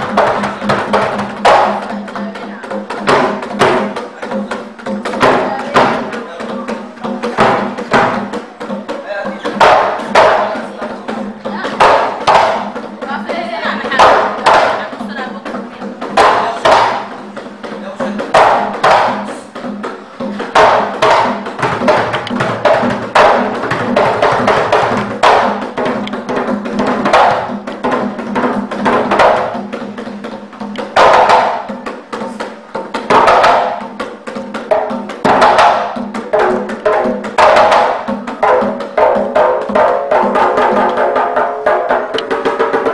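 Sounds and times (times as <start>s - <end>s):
dance music drum strikes: 0.0s - 42.9s.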